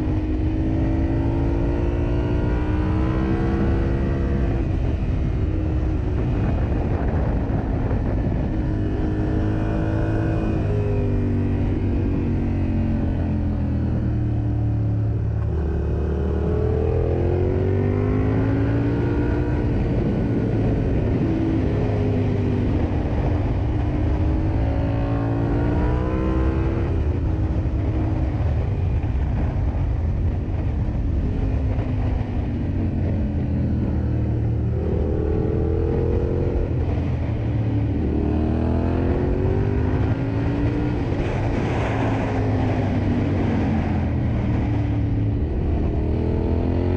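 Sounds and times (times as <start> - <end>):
motorcycle engine revving: 0.0 - 29.0, 31.3 - 46.9
wind rush: 0.0 - 46.9.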